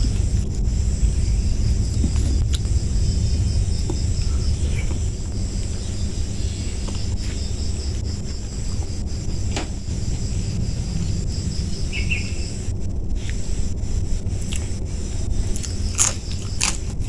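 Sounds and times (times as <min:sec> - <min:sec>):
insects chirping trill: 0:00.0 - 0:17.0
wind rumble on microphone: 0:00.0 - 0:17.0.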